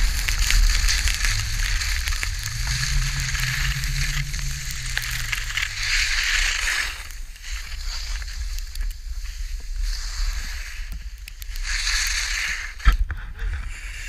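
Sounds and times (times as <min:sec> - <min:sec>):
skis scraping over snow: 0:00.0 - 0:14.0
wind rumbling on microphone: 0:00.0 - 0:14.0.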